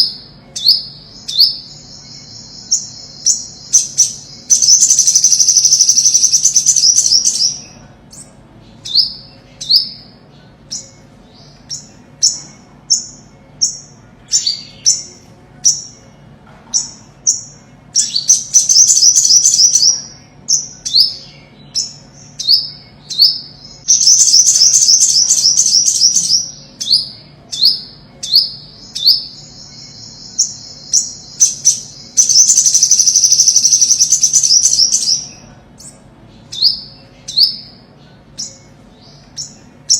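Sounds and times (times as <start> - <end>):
bird singing high fast trills: 0.0 - 39.9.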